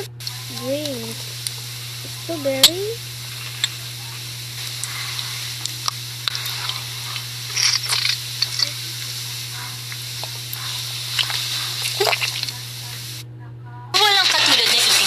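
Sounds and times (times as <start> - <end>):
food sizzling in a pan: 0.0 - 13.2, 14.0 - 15.0
low steady hum: 0.0 - 15.0.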